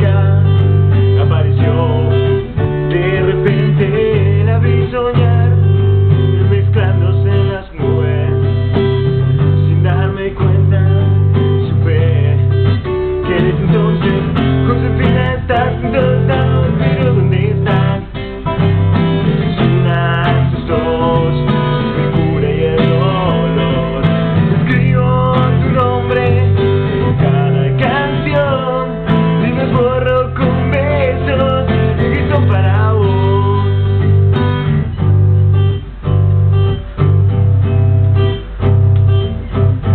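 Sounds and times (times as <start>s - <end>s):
man singing: 0.0s - 34.0s
acoustic guitar strumming: 0.0s - 39.9s.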